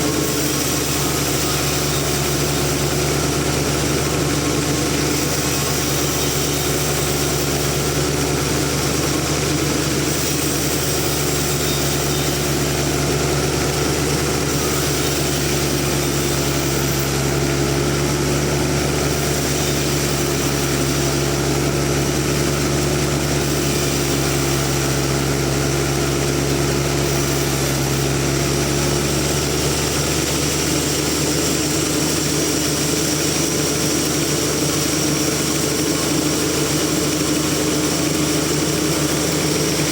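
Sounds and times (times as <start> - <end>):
sawmill machine motor hum: 0.0 - 39.9.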